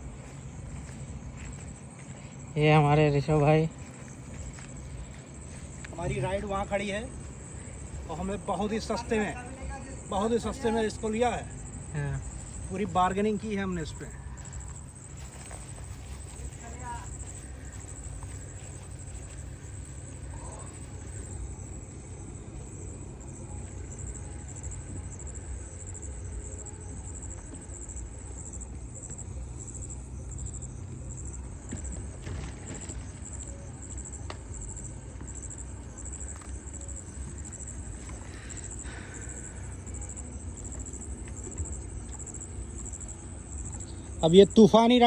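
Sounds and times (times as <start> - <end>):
insects trilling: 0.0 - 45.0
low steady rumble: 0.0 - 45.0.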